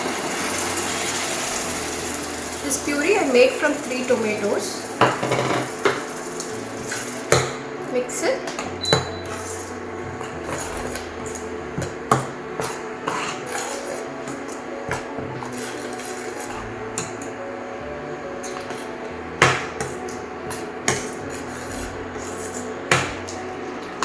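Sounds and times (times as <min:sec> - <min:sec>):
spoon scraping a pan: 0:00.4 - 0:17.4, 0:19.7 - 0:23.8.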